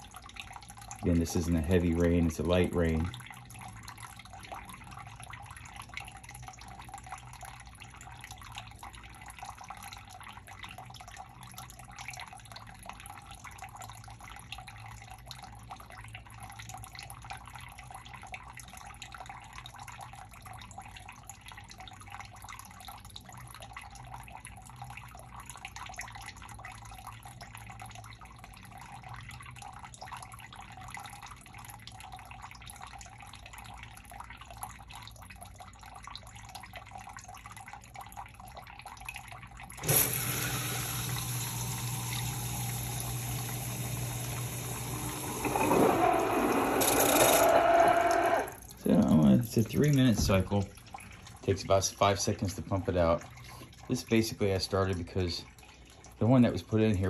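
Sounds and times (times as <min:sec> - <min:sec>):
water trickling and dripping: 0:00.0 - 0:57.0.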